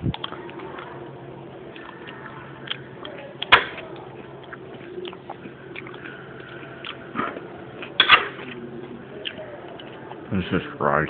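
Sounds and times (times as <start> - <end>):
chewing: 0.0 - 10.3.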